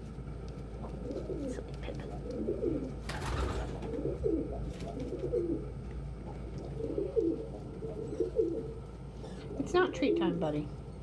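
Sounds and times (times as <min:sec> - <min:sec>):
pigeons cooing: 0:00.8 - 0:10.4.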